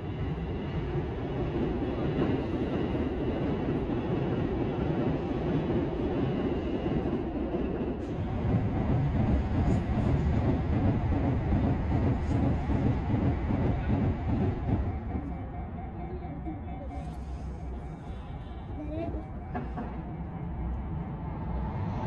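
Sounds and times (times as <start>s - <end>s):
train wheels on rails: 0.0s - 15.8s, 19.0s - 22.0s.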